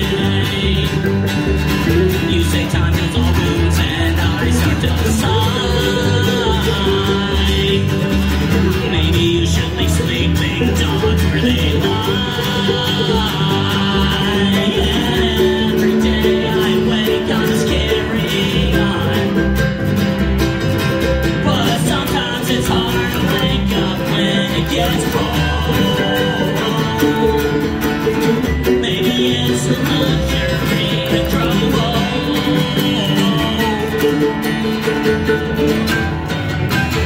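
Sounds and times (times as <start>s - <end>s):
man singing: 0.0s - 20.1s, 21.2s - 35.9s
acoustic guitar: 0.0s - 37.0s
mandolin: 0.0s - 37.0s
upright bass: 0.0s - 37.0s.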